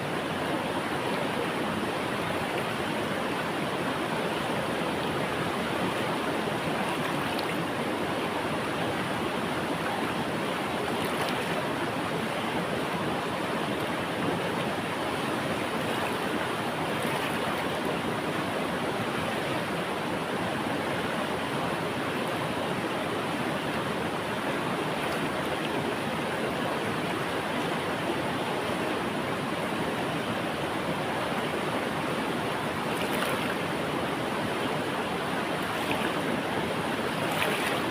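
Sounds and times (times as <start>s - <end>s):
river water rushing: 0.0s - 37.9s.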